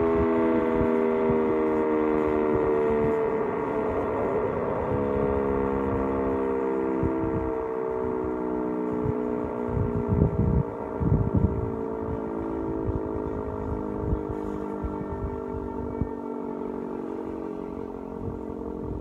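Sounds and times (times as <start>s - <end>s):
low rumbles: 0.0s - 16.2s
warning siren alert tone: 0.0s - 19.0s.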